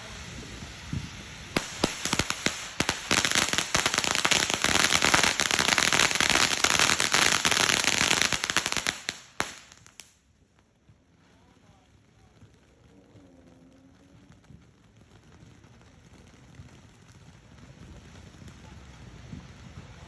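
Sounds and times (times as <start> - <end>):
firecrackers cracking: 0.0 - 20.0.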